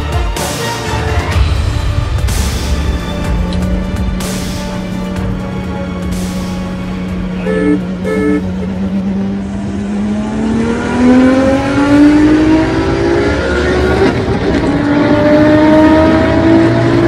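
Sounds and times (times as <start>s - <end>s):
car engine accelerating hard: 2.2s - 17.0s.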